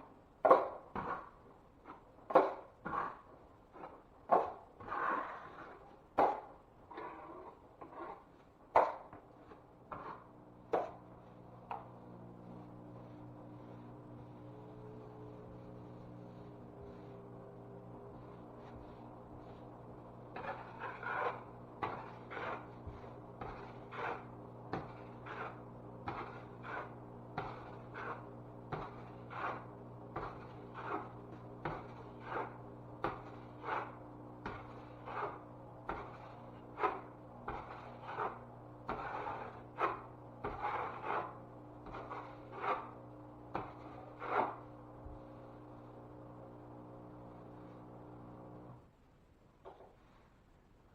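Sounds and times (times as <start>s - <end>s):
hand tool scraping drywall: 0.5s - 11.9s, 15.7s - 45.9s.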